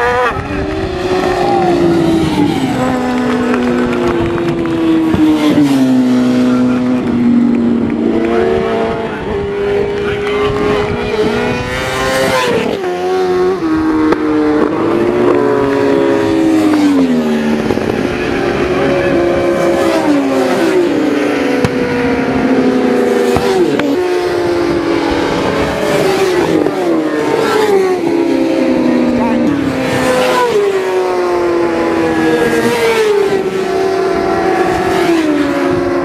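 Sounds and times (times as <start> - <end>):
motorcycles passing at full speed: 0.0 - 36.0.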